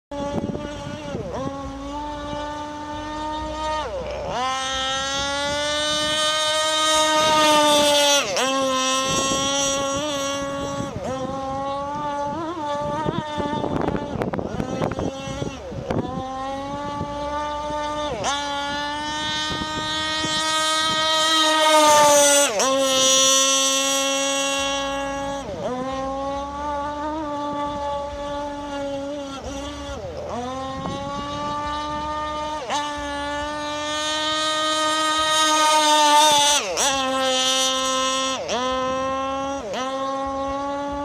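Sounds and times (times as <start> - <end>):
model boat engine buzzing: 0.1 - 41.0.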